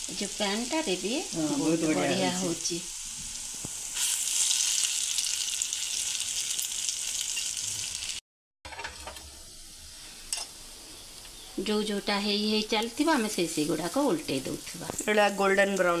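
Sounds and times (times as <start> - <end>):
fritters sizzling in oil: 0.0 - 16.0.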